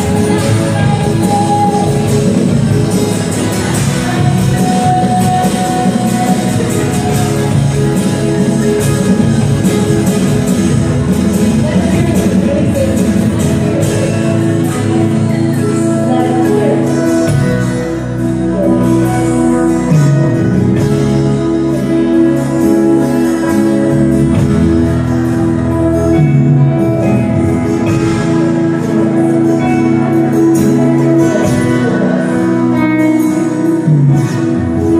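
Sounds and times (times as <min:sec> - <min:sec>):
worship band music: 0:00.0 - 0:34.9.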